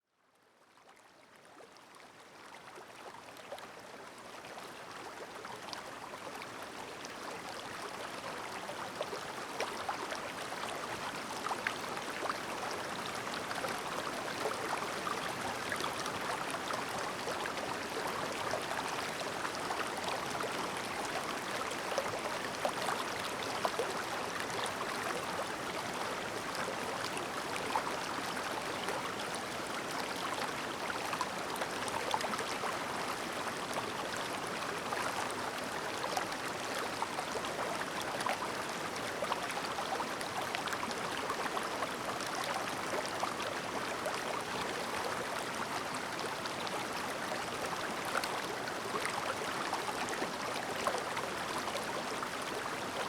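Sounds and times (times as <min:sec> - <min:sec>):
mountain stream babbling: 0:02.7 - 0:53.0.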